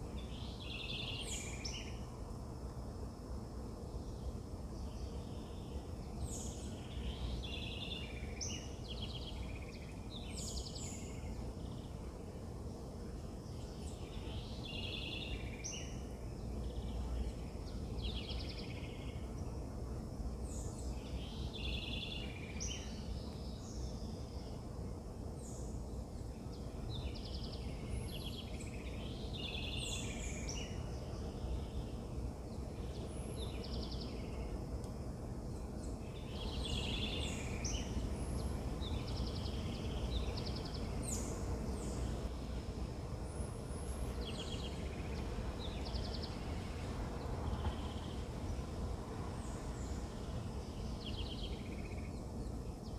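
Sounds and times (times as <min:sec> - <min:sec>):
low background rumble: 0:00.0 - 0:52.9.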